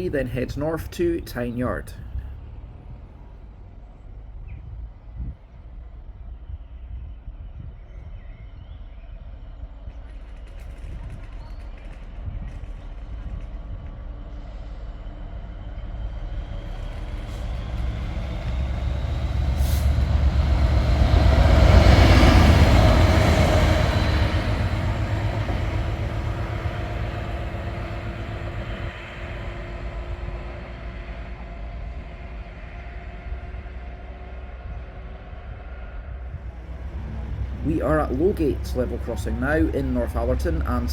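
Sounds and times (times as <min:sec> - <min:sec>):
rail noise: 0:00.0 - 0:07.5, 0:08.9 - 0:40.9
diesel locomotive engine rumbling: 0:00.0 - 0:40.9.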